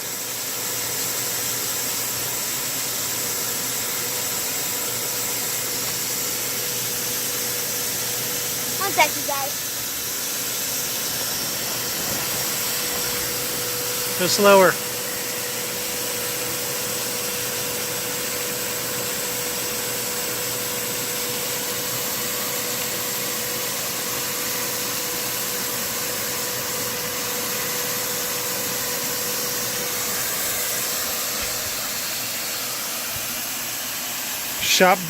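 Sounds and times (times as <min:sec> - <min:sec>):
shop vac whining: 0:00.0 - 0:35.0.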